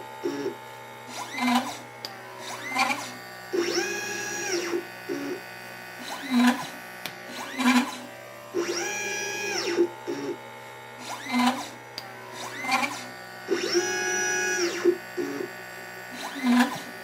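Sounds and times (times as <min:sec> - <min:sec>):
stepper motors whining: 0:00.0 - 0:10.4, 0:11.0 - 0:17.0.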